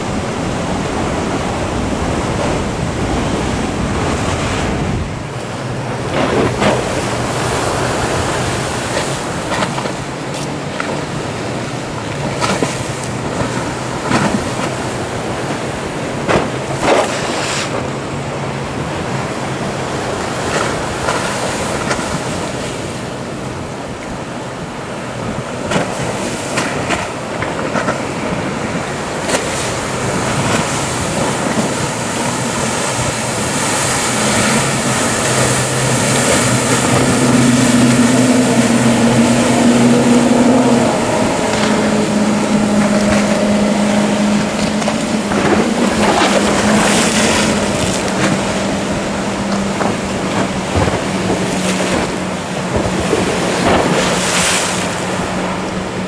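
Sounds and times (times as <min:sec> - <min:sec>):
hull splashing through waves: 0:00.0 - 0:56.0
motorboat engine drone: 0:00.0 - 0:56.0
surf: 0:00.0 - 0:56.0
wind noise: 0:00.0 - 0:56.0.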